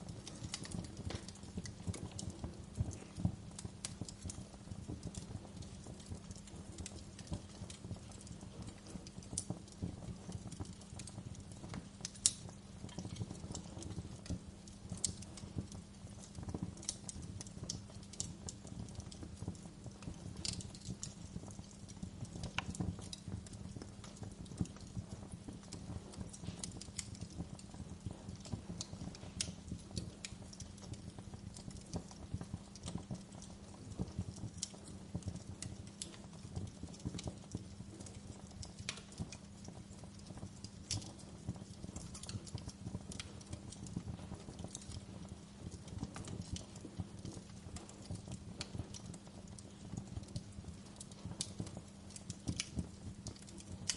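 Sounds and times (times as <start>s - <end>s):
fire pops and snaps: 0.0s - 53.9s
wood fire crackling: 0.0s - 53.9s.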